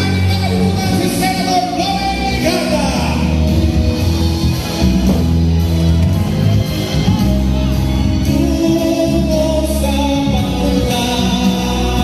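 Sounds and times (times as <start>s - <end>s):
heavy bass line: 0.0s - 12.0s
loud music with singing: 0.0s - 12.0s.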